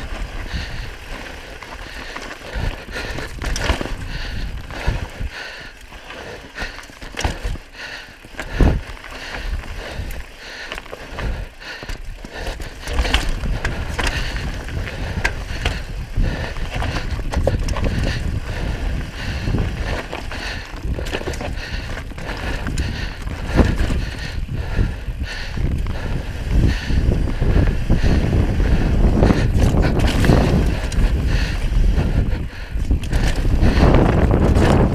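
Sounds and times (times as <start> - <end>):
wind rumble on microphone: 0.0 - 10.4, 11.0 - 34.9
bike knocking and rattling on rocks: 0.0 - 34.9
bike tyres rolling over rocky dirt: 0.0 - 34.9.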